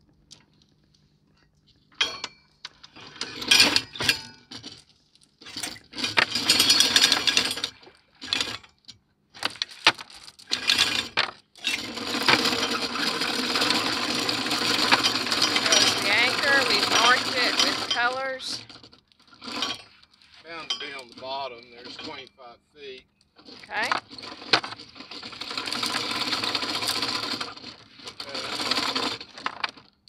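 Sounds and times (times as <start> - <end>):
anchor chain rattling: 1.9 - 22.4, 23.3 - 30.0.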